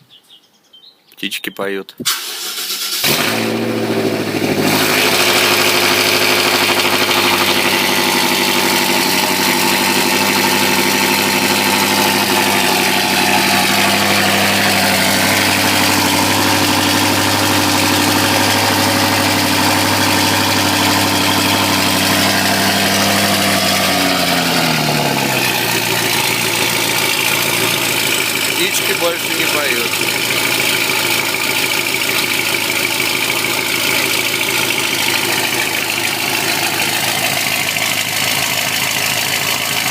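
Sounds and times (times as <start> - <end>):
car engine idling: 2.1 - 39.9.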